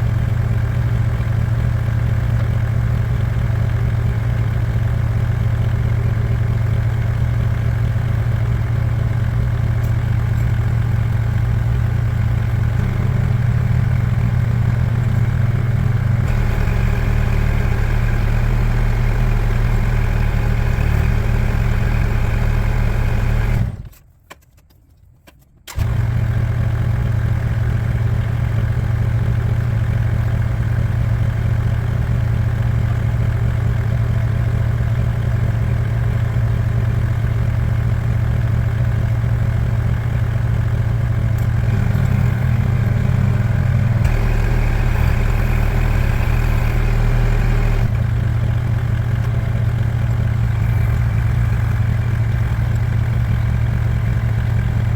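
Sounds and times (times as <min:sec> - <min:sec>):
engine running steadily: 0:00.0 - 0:24.1, 0:25.2 - 0:54.9.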